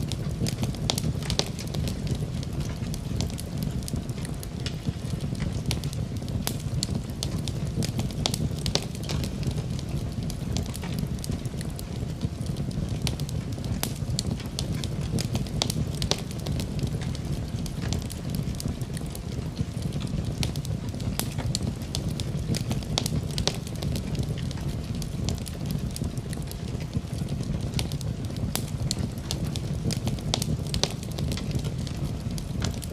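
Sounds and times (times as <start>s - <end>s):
fire crackling and popping: 0.0s - 32.9s
low rumble of flames: 0.0s - 32.9s.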